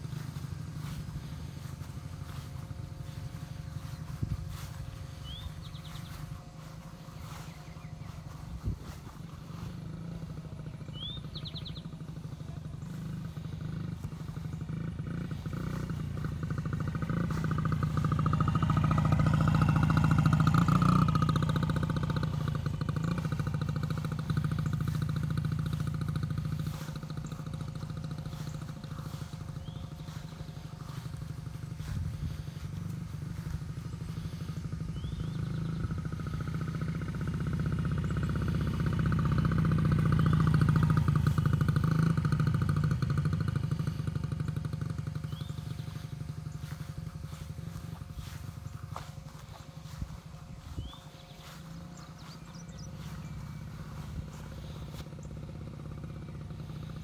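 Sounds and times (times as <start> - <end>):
mini motorcycle engine running: 0.0 - 57.0.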